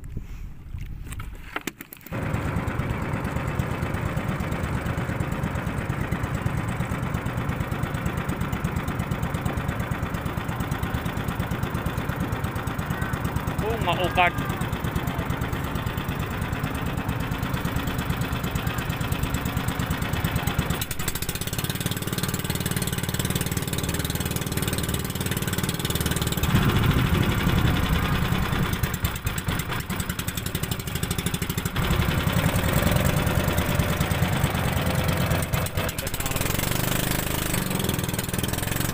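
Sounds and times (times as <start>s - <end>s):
small boat engine running: 2.1s - 38.9s.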